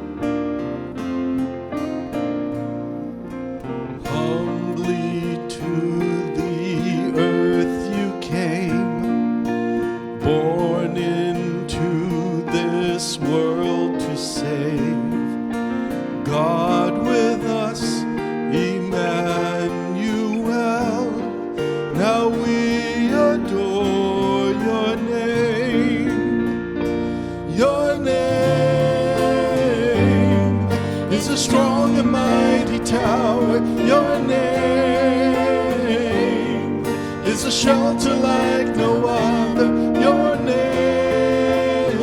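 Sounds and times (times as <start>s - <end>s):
acoustic guitar: 0.0s - 42.0s
worship song: 0.0s - 42.0s
person singing: 4.0s - 9.2s, 10.1s - 15.4s, 16.2s - 42.0s.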